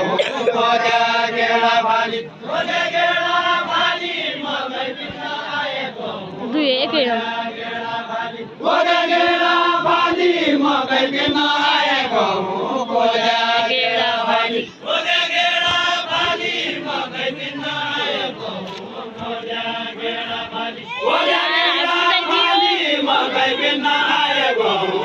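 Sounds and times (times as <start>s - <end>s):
voices singing in chant-like style: 0.0s - 25.0s.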